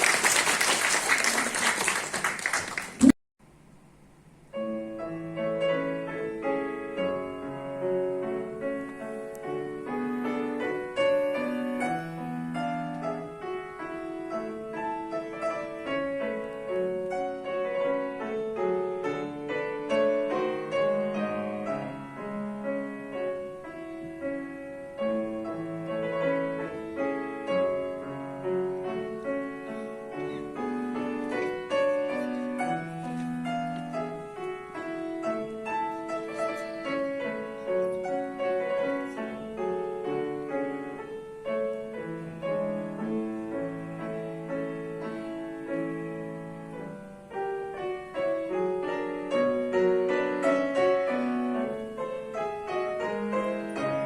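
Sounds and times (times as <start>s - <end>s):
classical piano piece: 4.5s - 54.0s.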